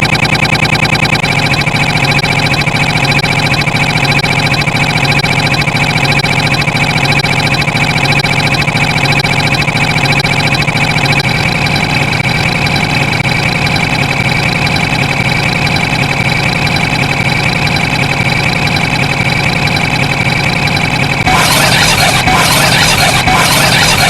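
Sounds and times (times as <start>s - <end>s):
engine-like drone with high whine: 0.0s - 24.0s.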